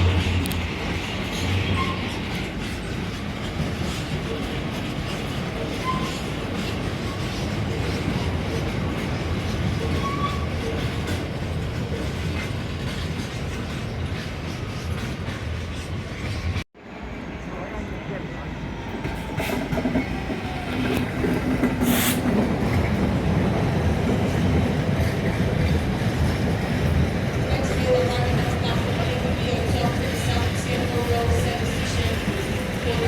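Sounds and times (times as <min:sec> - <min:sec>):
train rumbling along track: 0:00.0 - 0:33.0.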